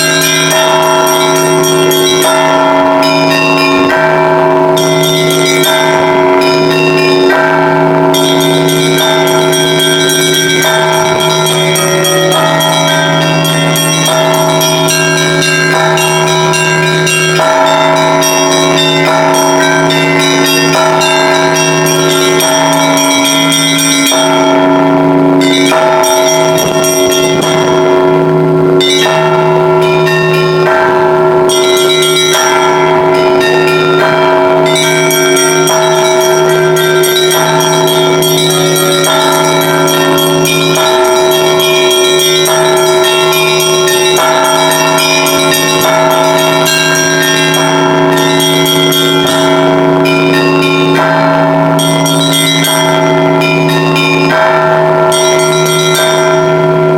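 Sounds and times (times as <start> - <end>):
small high bells striking quickly: 0.0 - 28.2, 28.8 - 56.9
low bell ringing: 0.0 - 56.9.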